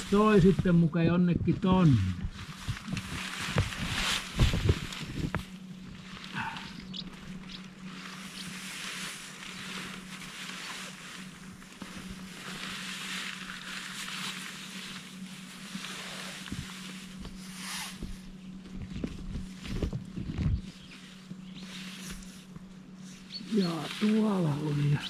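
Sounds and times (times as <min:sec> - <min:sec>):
tent fabric rustling: 0:00.0 - 0:01.0, 0:01.6 - 0:25.0
steady low hum: 0:00.0 - 0:25.0.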